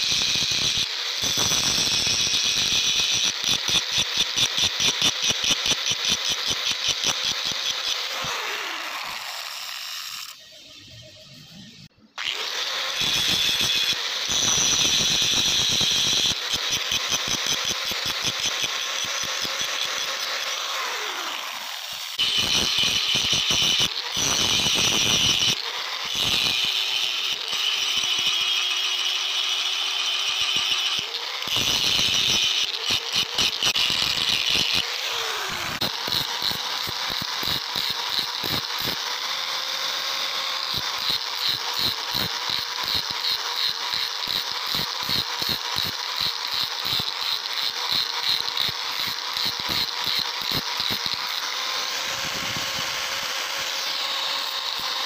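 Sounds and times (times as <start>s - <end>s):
angle grinder grinding steel: 0.0s - 55.0s.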